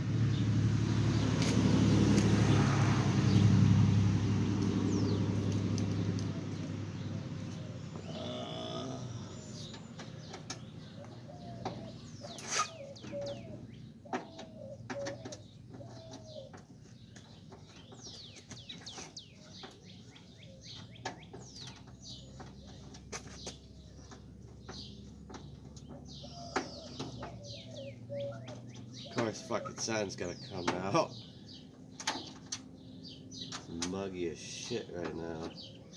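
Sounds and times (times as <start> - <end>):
birds chirping: 0.1 - 35.9.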